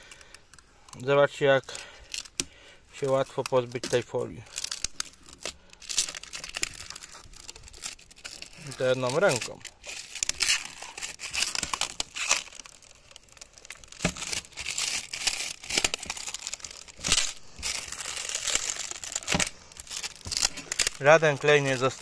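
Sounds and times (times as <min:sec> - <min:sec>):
window film peeling and crinkling: 0:00.0 - 0:22.0
film snapping: 0:02.1 - 0:08.3, 0:08.9 - 0:22.0.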